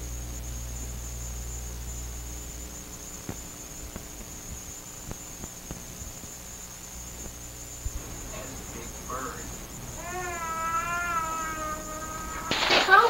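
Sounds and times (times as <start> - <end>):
electrical mains hum: 0.0 - 13.0
faint high whine: 0.0 - 13.0.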